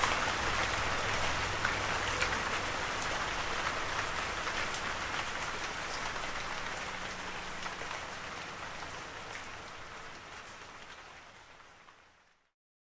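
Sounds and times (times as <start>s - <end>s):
rain falling: 0.0s - 12.5s.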